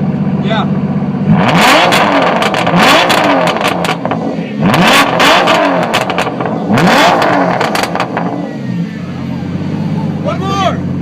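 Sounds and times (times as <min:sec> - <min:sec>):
sports car engine revving: 0:00.0 - 0:11.0
exhaust crackles: 0:01.2 - 0:10.2.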